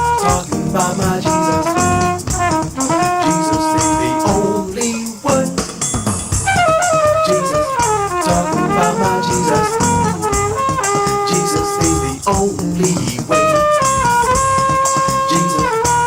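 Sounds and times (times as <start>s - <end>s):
brass playing gospel melody: 0.0s - 16.0s
steady beat: 0.0s - 16.0s.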